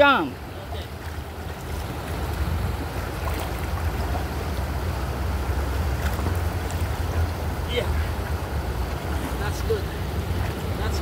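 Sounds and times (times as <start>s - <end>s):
shallow water lapping: 0.0s - 11.0s.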